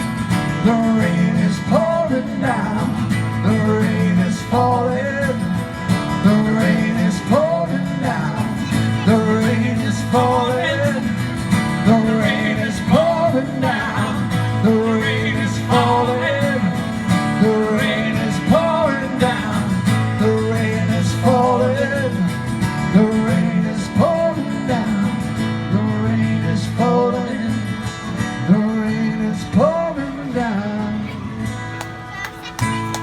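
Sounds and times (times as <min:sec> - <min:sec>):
acoustic guitar folk-blues: 0:00.0 - 0:33.0.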